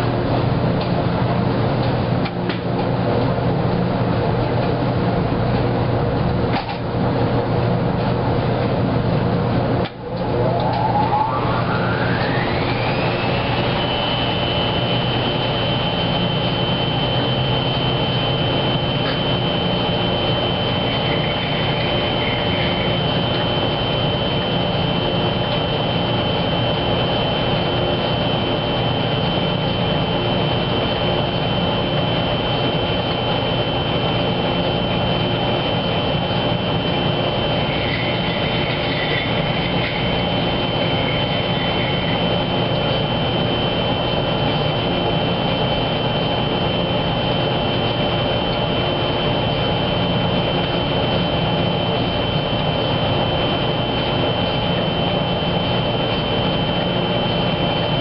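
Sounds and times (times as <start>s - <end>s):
high whine: 0.0s - 58.0s
washing machine running: 0.0s - 58.0s.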